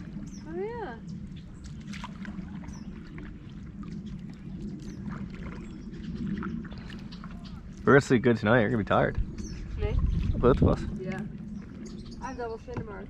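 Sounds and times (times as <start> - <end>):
water lapping against canoe: 0.0 - 13.0
light clicks and knocks from boat: 0.2 - 8.0, 9.0 - 13.0.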